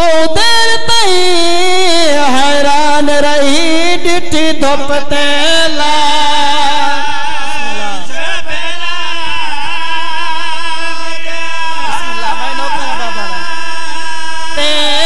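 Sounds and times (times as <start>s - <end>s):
men singing a lament: 0.0s - 15.0s.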